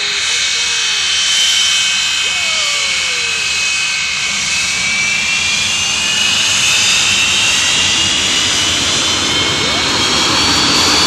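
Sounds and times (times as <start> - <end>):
jet engine whining: 0.0 - 11.0.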